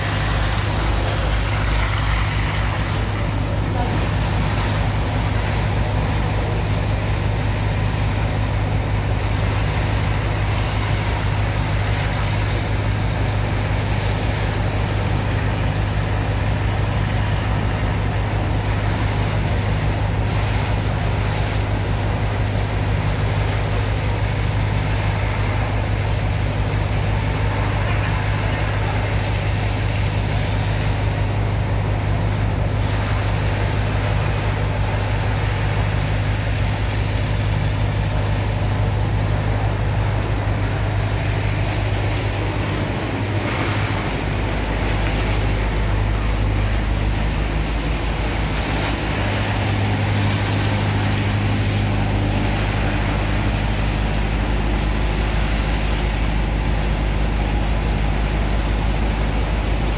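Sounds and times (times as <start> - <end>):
pump engine droning: 0.0 - 59.9
water hissing from hoses: 0.0 - 59.9.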